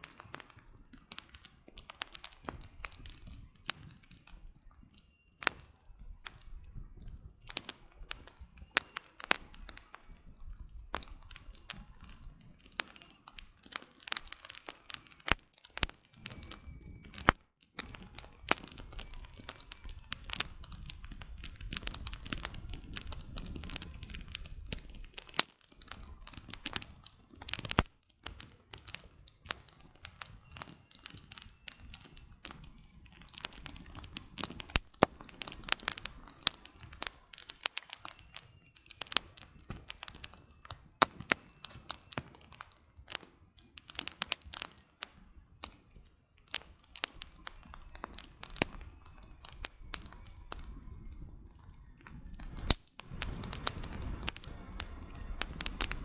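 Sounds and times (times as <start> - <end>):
firewood crackling and popping: 0.0 - 56.0
low rumble of flames: 0.0 - 56.0.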